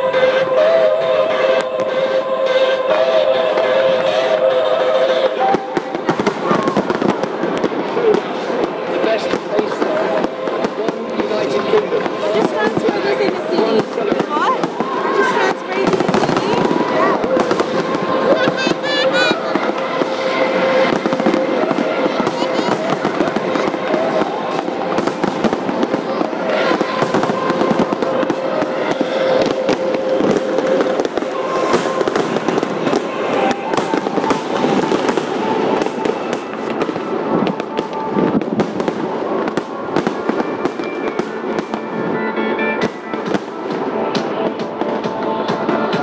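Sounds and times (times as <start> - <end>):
fireworks bangs and crackles: 0.0 - 46.0
music soundtrack: 0.0 - 46.0.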